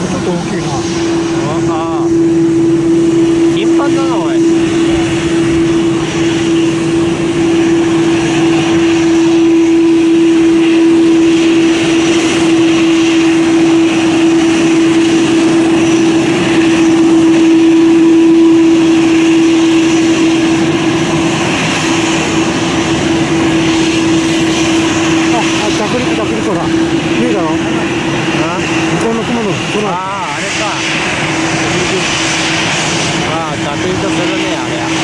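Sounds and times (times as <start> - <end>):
jet engine idling: 0.0 - 35.0.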